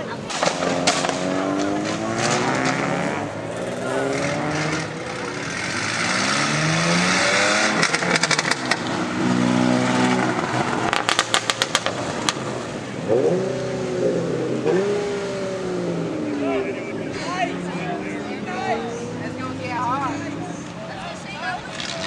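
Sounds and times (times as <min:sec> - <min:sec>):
car engines revving hard: 0:00.0 - 0:22.0
sharp exhaust pops and crackles: 0:00.2 - 0:13.7, 0:14.6 - 0:22.0.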